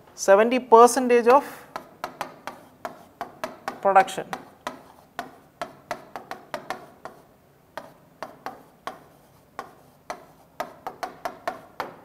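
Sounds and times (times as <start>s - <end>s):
marker writing on whiteboard: 1.3s - 12.0s.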